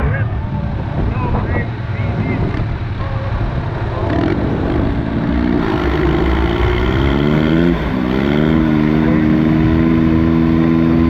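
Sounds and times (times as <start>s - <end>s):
tractor engine revving: 1.6s - 11.0s.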